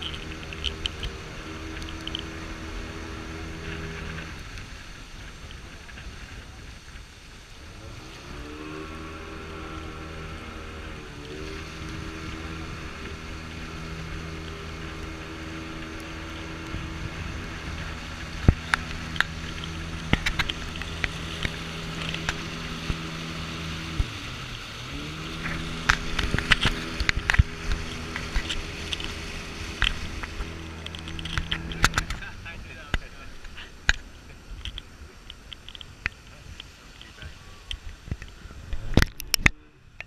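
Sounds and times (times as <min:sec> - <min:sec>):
outboard motor droning: 0:00.0 - 0:40.0
water rushing: 0:00.0 - 0:40.0
wind: 0:00.0 - 0:40.0.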